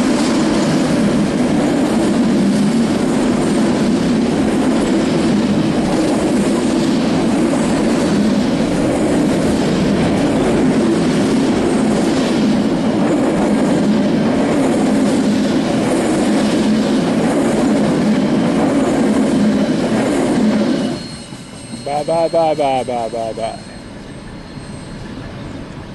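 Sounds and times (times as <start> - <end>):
train wheels clicking and rumbling: 0.0 - 25.9.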